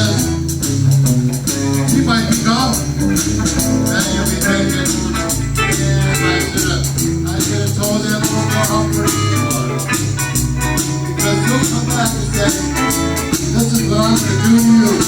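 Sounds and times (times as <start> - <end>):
blues song with bass and guitar: 0.0 - 15.0
steady percussion beat: 0.0 - 15.0.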